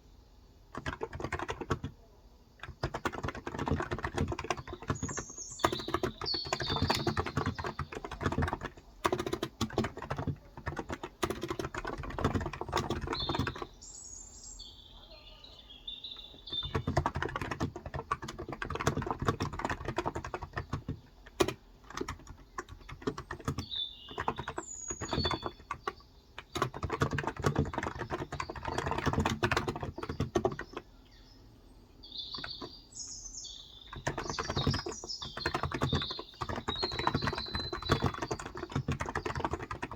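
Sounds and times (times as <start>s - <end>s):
birds chirping: 0.0s - 39.9s
fast keyboard typing: 0.7s - 13.8s, 16.2s - 30.9s, 32.2s - 32.8s, 33.6s - 39.9s.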